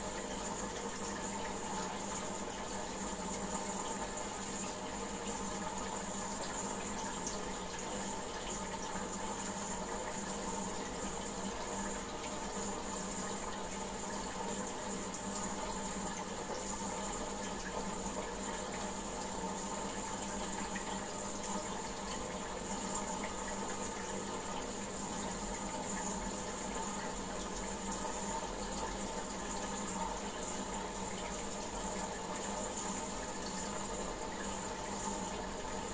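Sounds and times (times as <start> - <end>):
aquarium filter hum: 0.0 - 35.9.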